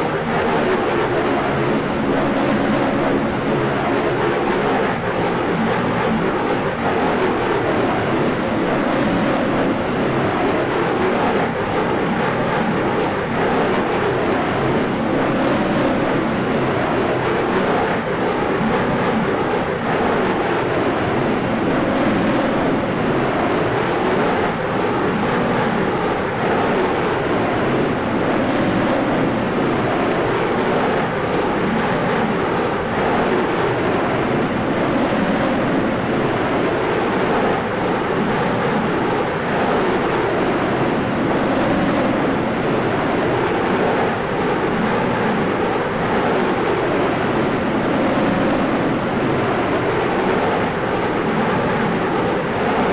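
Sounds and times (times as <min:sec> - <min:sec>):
aircraft engine noise: 0:00.0 - 0:52.9.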